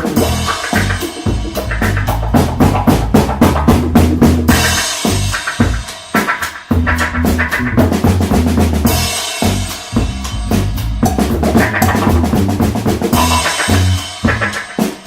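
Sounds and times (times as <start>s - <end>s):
drum kit hits: 0.0s - 15.0s
funk rock band playing: 0.0s - 15.0s
low bass line: 0.2s - 5.3s, 6.7s - 14.5s.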